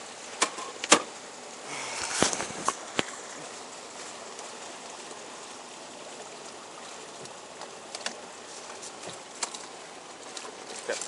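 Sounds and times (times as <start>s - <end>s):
open water rushing hiss: 0.0s - 11.0s.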